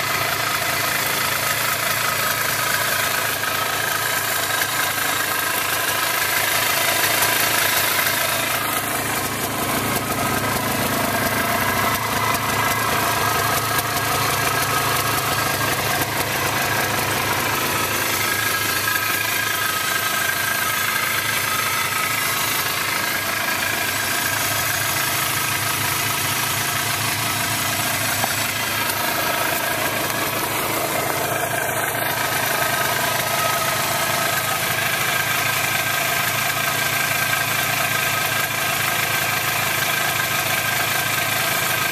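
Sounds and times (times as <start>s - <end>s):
two-stroke engine idling: 0.0s - 41.9s.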